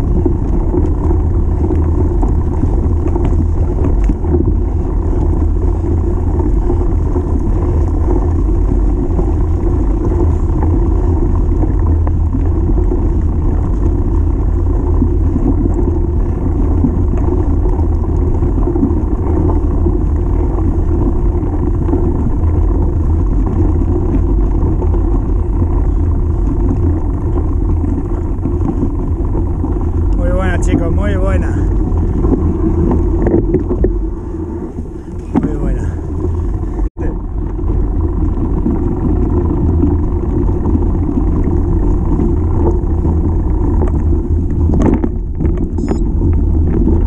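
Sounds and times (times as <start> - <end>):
bike tyres rolling on dirt: 0.0 - 47.0
wind buffeting microphone: 0.0 - 47.0.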